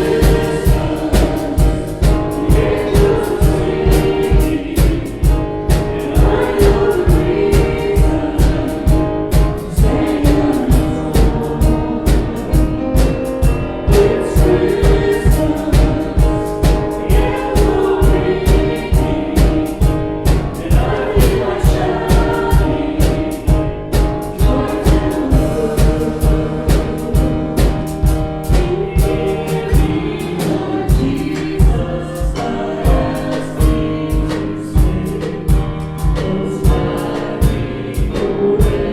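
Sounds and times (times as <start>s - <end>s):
choir singing gospel music: 0.0s - 38.9s.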